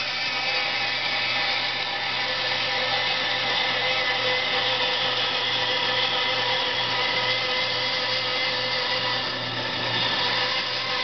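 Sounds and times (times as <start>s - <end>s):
bandsaw cutting wood: 0.0s - 11.0s.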